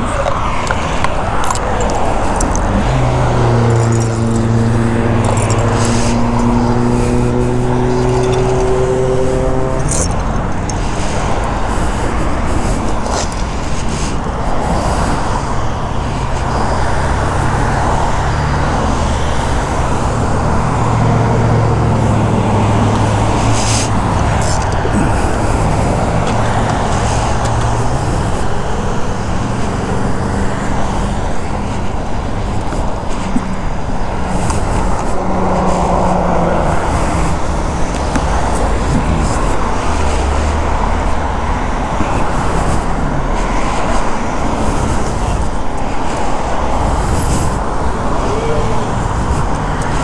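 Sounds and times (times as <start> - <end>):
traffic tyre and road noise: 0.0 - 50.0
vehicle engine drone: 0.0 - 50.0.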